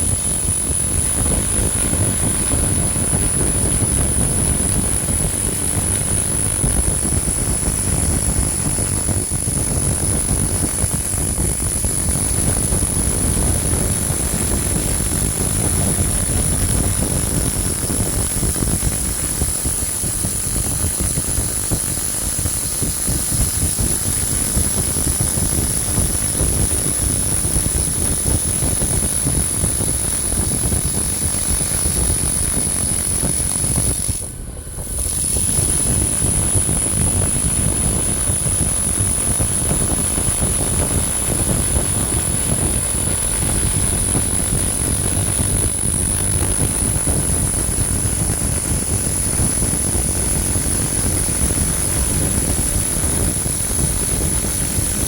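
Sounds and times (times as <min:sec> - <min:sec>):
laser cleaner rushing and whining: 0:00.0 - 0:55.0.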